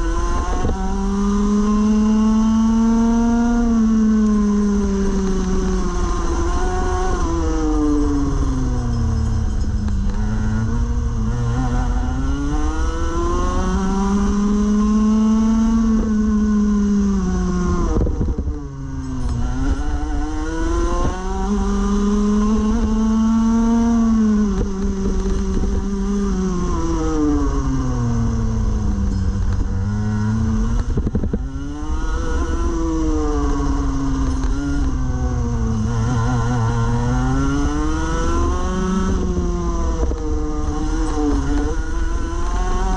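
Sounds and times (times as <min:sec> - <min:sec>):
kart engine racing: 0:00.0 - 0:42.9.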